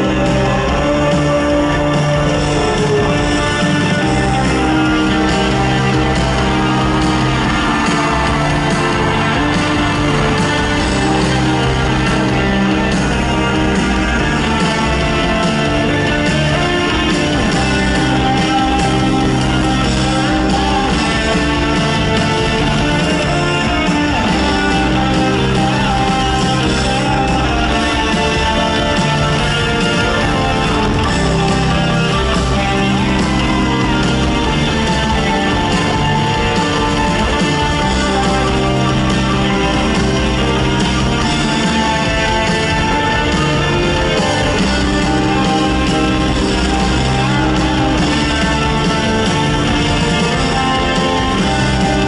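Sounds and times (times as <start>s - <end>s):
lead vocal singing: 0.0s - 52.0s
rock band playing live: 0.0s - 52.0s.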